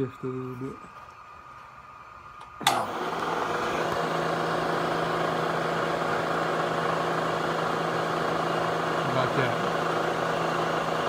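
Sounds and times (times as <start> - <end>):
milling machine motor humming: 0.0 - 11.0.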